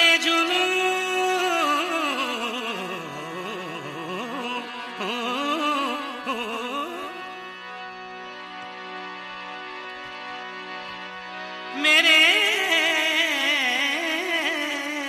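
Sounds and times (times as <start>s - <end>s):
ornamented wordless melody: 0.0s - 15.0s.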